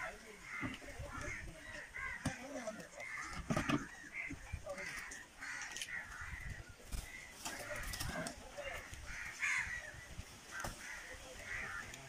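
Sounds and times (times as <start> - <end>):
crows cawing: 0.0 - 12.0.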